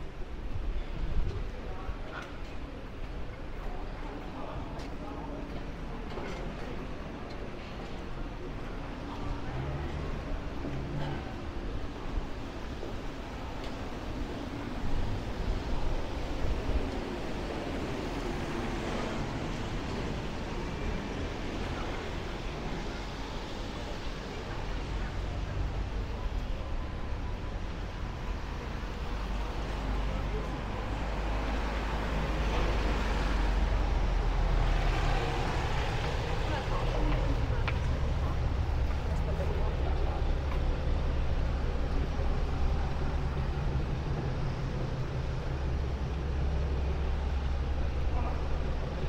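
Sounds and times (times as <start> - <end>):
traffic rumble: 0.0 - 49.0.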